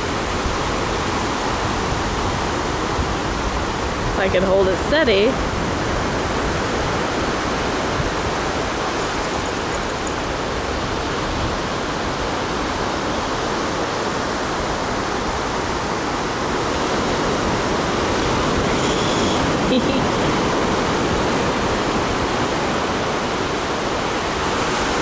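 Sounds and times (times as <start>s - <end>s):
ocean surf breaking: 0.3s - 25.0s.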